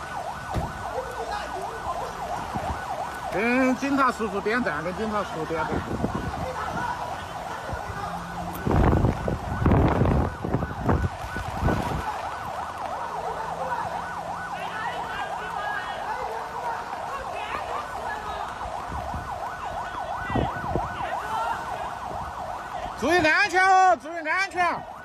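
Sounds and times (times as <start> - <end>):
siren wailing: 0.0 - 25.0.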